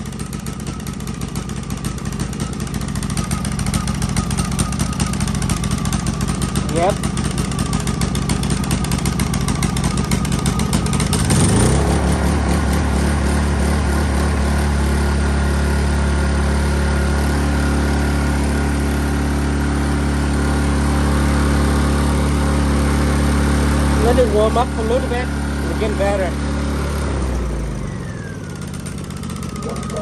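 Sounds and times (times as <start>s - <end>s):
small generator engine running: 0.0s - 30.0s.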